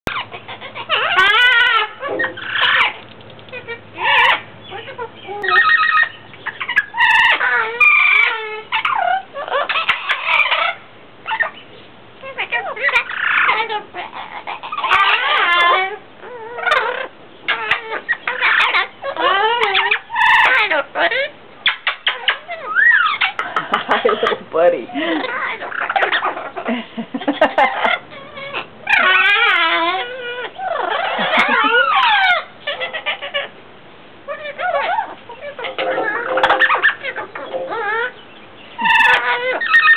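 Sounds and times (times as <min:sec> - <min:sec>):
parrots squawking and chattering: 0:00.1 - 0:39.9.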